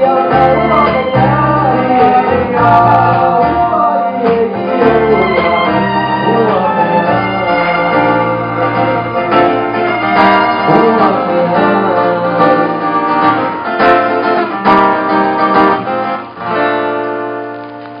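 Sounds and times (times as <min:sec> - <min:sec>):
people singing: 0:00.0 - 0:14.5
acoustic guitar strumming: 0:00.0 - 0:18.0.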